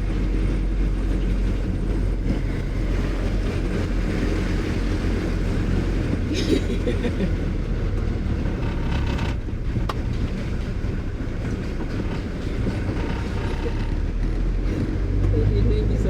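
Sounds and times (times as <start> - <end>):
vehicle driving rumble: 0.0 - 16.0.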